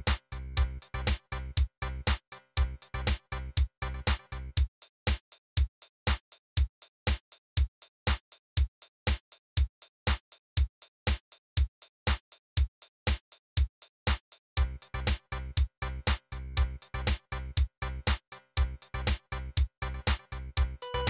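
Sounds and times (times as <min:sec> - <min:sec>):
drum machine beat: 0:00.0 - 0:16.2, 0:19.1 - 0:21.0.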